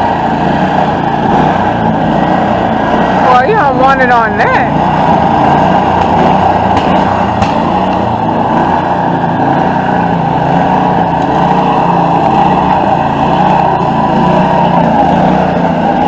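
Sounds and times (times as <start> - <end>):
small gasoline engine running: 0.0 - 16.0.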